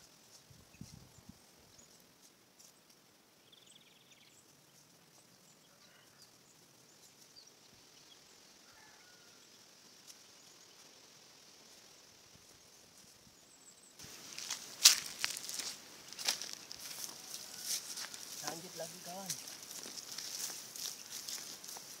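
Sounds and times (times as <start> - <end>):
high insect hiss: 0.0 - 22.0.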